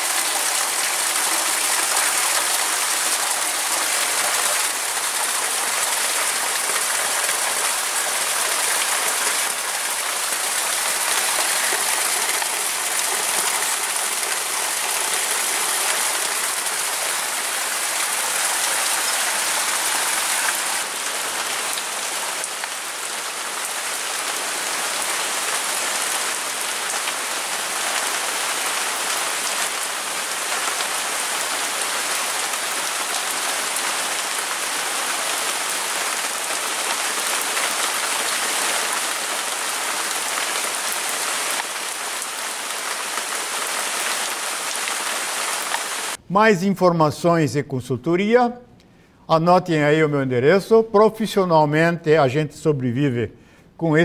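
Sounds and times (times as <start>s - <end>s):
heavy rain on plants: 0.0s - 46.2s
water pouring from roof: 0.0s - 46.2s.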